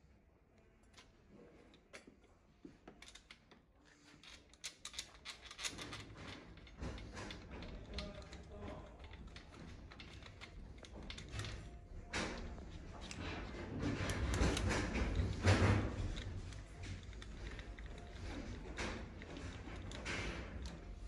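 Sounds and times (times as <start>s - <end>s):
metal clicks and scrapes: 2.9s - 21.0s.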